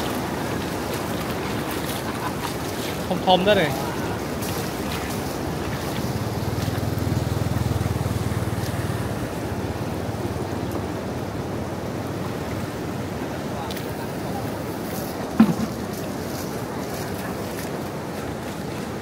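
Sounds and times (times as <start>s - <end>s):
water rushing over dam: 0.0s - 19.0s.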